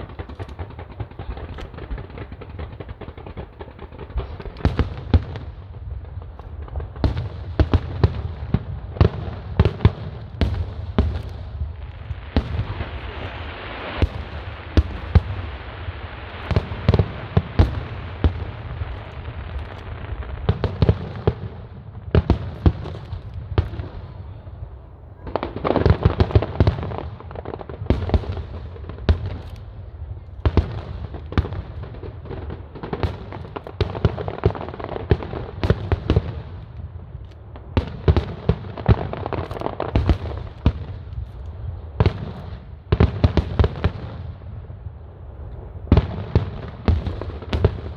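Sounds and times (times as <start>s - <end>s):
fireworks bangs and booms: 0.0s - 47.9s.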